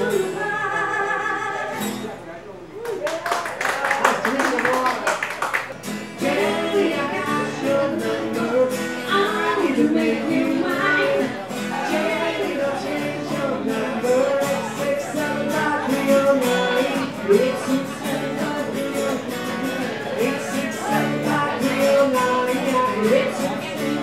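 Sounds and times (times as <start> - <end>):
man and woman singing: 0.0 - 1.9, 6.2 - 24.0
acoustic guitars strummed: 0.0 - 2.3, 5.7 - 24.0.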